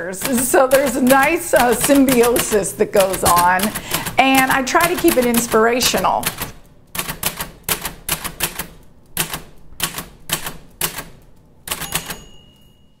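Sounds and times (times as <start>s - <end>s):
typewriter keys clacking: 0.0s - 12.7s.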